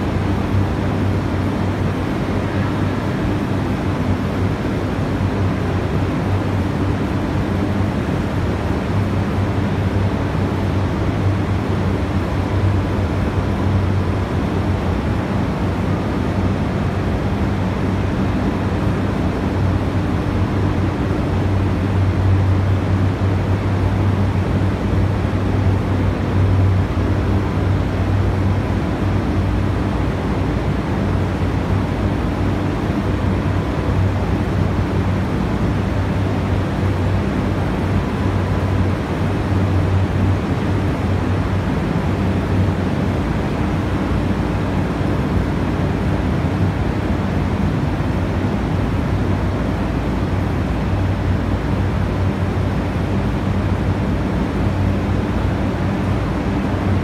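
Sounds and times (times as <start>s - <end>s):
powerhouse machinery drone: 0.0s - 57.0s.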